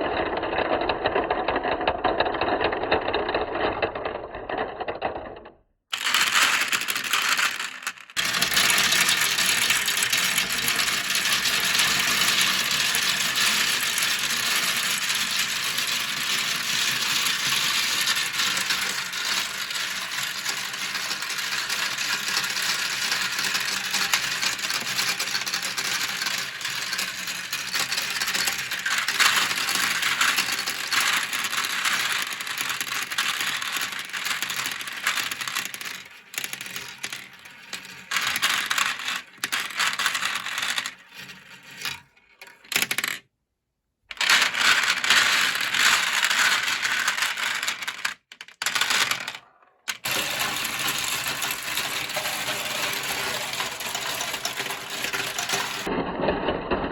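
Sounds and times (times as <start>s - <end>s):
marbles rattling down plastic run: 0.0s - 43.2s, 44.1s - 56.0s.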